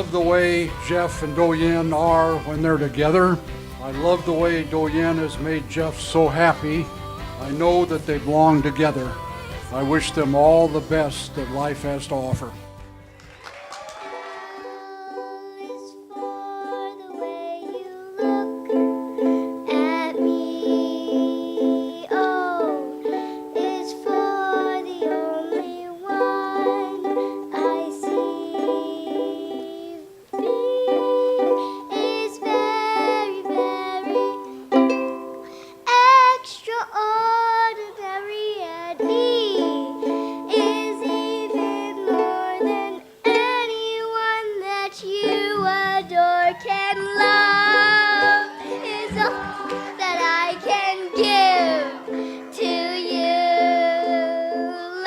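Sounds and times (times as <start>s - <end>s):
plucked string chords: 0.0s - 13.1s, 14.6s - 36.2s, 39.0s - 43.7s, 45.0s - 55.0s.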